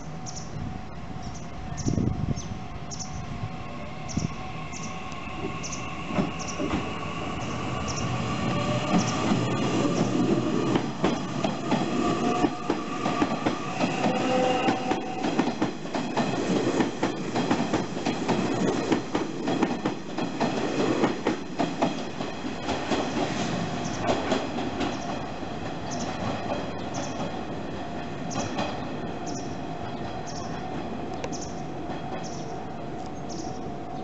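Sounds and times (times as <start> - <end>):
train whine: 0.0 - 34.0.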